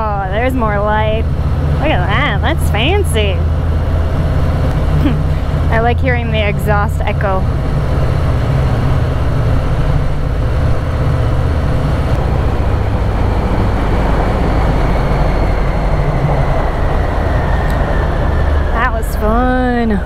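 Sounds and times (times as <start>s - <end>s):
motorcycle engine echoing in tunnel: 0.0s - 20.0s.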